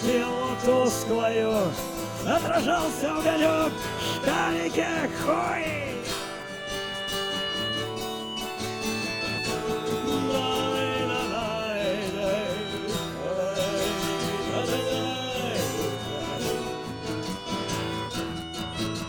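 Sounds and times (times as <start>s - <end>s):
strummed acoustic guitar chords: 0.0s - 19.0s.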